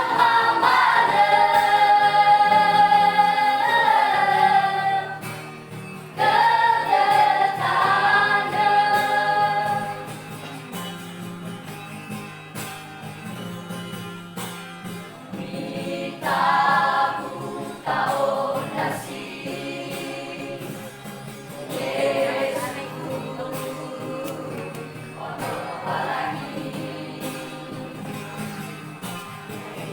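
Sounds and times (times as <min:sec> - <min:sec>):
vocal group singing in harmony: 0:00.0 - 0:10.6, 0:15.2 - 0:29.9.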